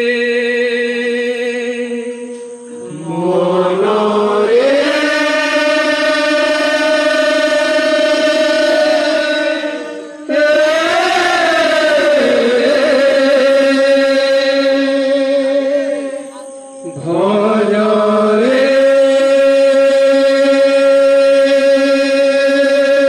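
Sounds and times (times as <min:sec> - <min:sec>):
voices singing devotional chant: 0:00.0 - 0:23.0.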